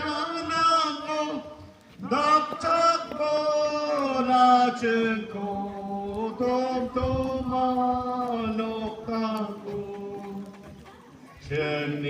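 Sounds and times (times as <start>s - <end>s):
voices singing a slow chant: 0.0s - 12.0s.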